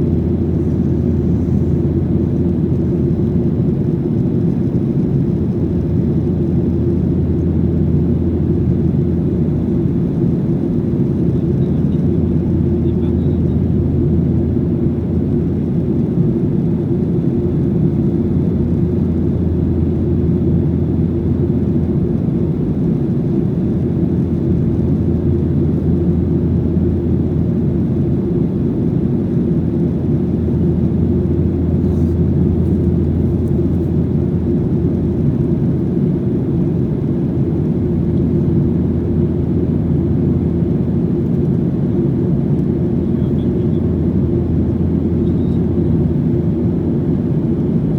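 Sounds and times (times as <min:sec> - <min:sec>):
cabin engine and airflow drone: 0:00.0 - 0:47.9.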